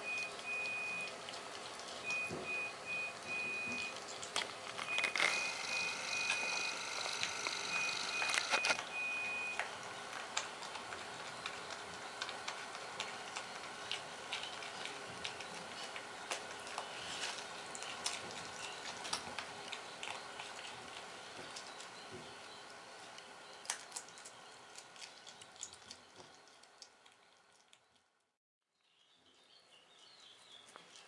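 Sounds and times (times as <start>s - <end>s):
porcupine chewing vegetables: 0.0s - 28.3s, 29.0s - 31.0s.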